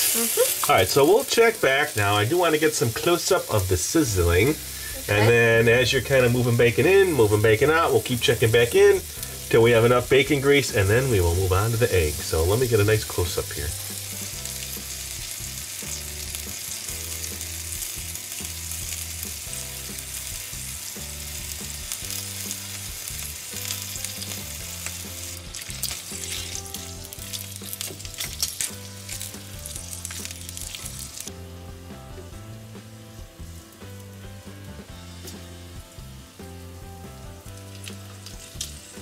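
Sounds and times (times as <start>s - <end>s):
bacon sizzling in a frying pan: 0.0s - 39.0s.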